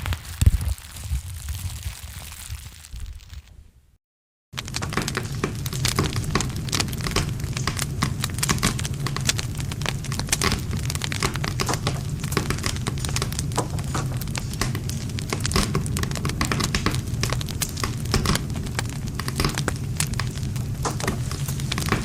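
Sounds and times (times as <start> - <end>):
campfire crackling and snapping: 0.0 - 3.6, 4.6 - 22.0
low rumble of flames: 0.0 - 3.9, 4.6 - 22.0.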